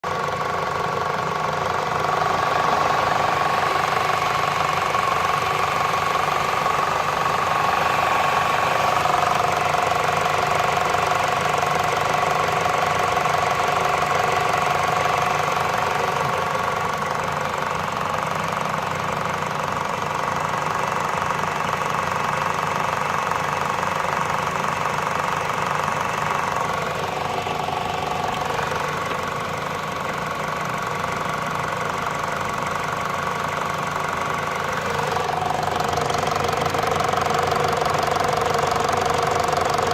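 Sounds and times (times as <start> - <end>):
car engine idling with ticking: 0.0 - 39.9.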